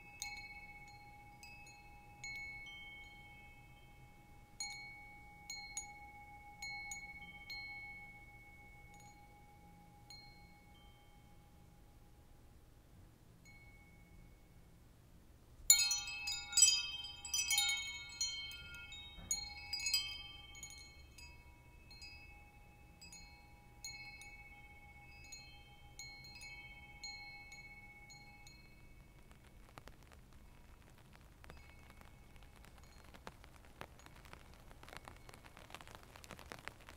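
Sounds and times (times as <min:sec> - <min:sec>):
metal wind chimes ringing: 0:00.0 - 0:12.2, 0:13.4 - 0:14.8, 0:15.7 - 0:29.2, 0:31.5 - 0:35.6.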